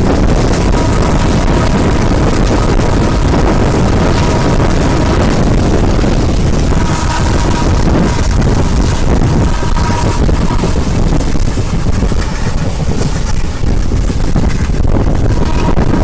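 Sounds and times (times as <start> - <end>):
train wheels rumbling: 0.0 - 16.0
wind buffeting microphone: 0.0 - 16.0.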